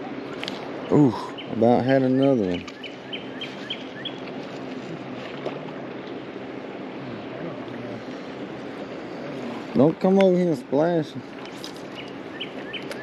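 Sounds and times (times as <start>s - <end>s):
river water flowing and rippling: 0.0s - 13.0s.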